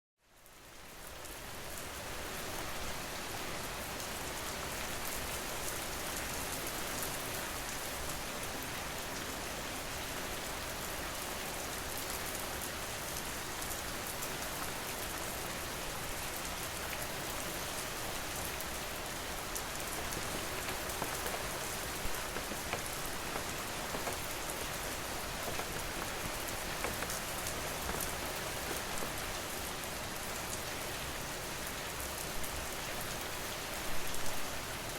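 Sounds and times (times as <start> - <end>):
rain pattering: 0.4 - 34.9.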